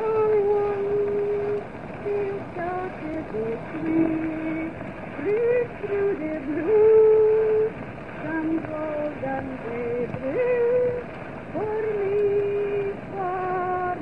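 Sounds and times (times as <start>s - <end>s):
recording hiss: 0.0s - 14.0s
woman singing slow melody: 0.0s - 14.0s.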